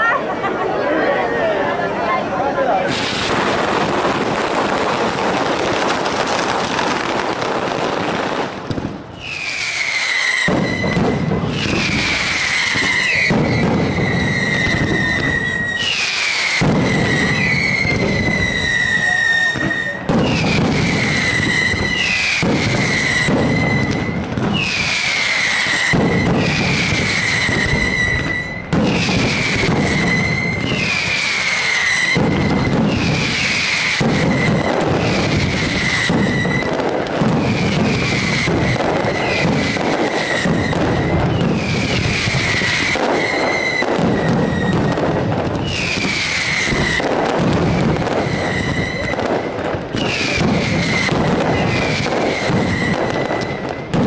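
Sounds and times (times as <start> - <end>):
firecrackers crackling and banging: 0.0 - 54.0
whistling fireworks: 0.0 - 54.0.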